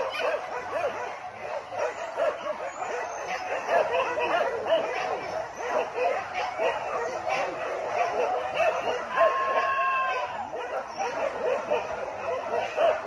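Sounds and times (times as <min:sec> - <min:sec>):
dogs baying and yelping: 0:00.0 - 0:13.0.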